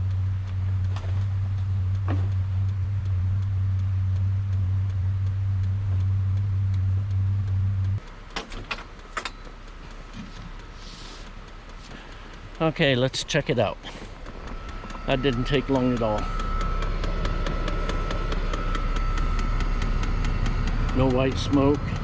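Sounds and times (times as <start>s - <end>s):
loud low mechanical hum: 0.0s - 22.0s.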